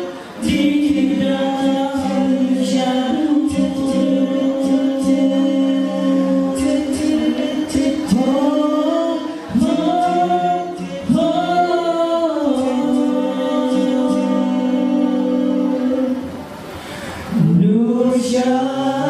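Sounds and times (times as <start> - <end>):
male group singing a cappella: 0.0 - 16.4, 17.2 - 19.0.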